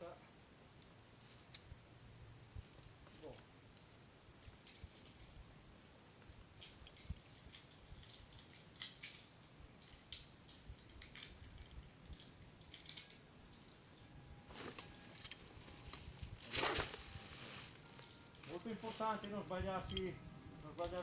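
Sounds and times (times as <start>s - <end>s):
handling clicks and rustles: 2.5s - 21.0s.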